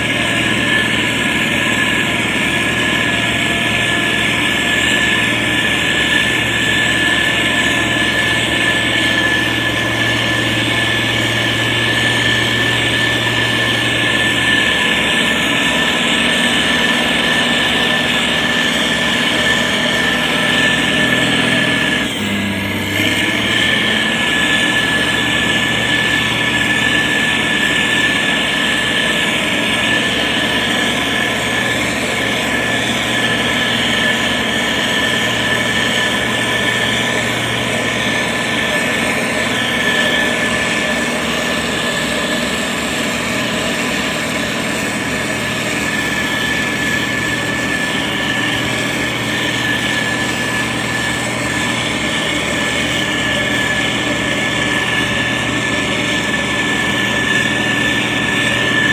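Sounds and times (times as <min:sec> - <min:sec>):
diesel engine running: 0:00.0 - 0:58.9
high-pitched whine: 0:00.0 - 0:58.9.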